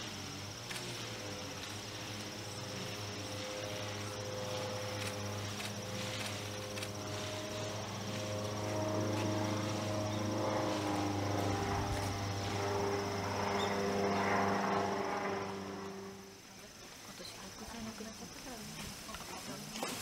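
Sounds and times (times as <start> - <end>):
insects trilling: 0.0 - 20.0
low hum of held tones: 1.2 - 18.0.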